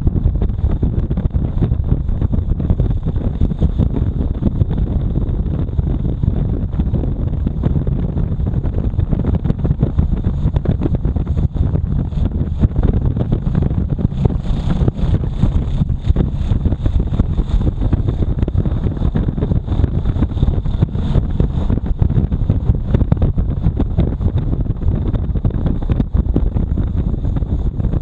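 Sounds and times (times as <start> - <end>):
motorcycle engine at speed: 0.0 - 28.0
wind buffeting microphone: 0.0 - 28.0.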